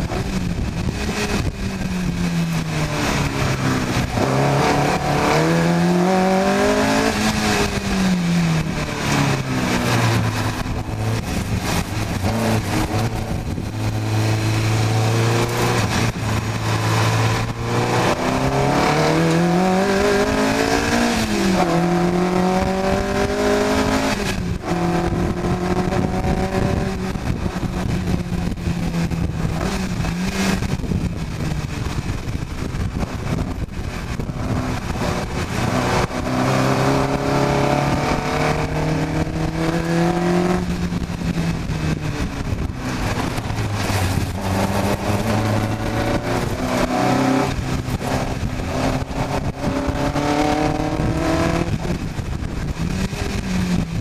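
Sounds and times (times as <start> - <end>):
race car engine revving: 0.0 - 54.0
wind and road noise: 0.0 - 54.0.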